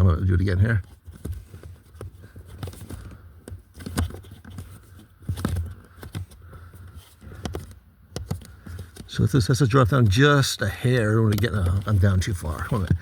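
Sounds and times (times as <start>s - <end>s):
plastic scraping and clicking: 0.7s - 10.2s, 10.8s - 13.0s.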